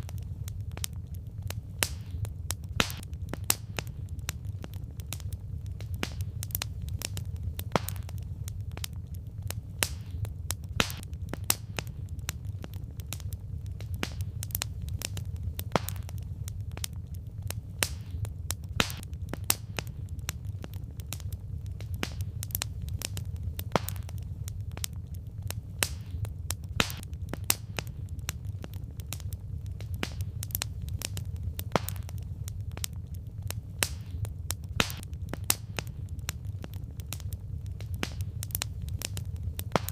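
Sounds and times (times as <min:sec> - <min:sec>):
campfire logs crackling: 0:00.0 - 0:39.9
low rumble of flames: 0:00.0 - 0:39.9.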